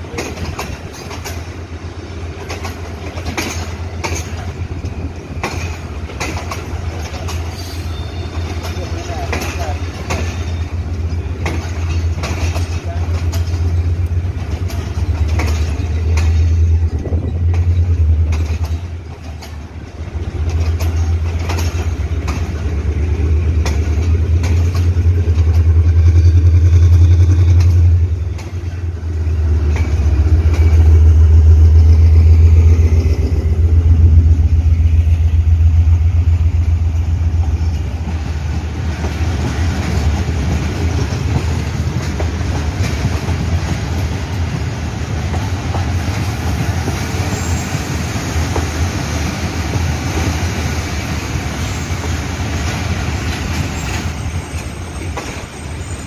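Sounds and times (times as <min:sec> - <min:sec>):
heavy low train rumble: 0:00.0 - 0:56.0
train wheels clicking over rail joints: 0:00.0 - 0:56.0.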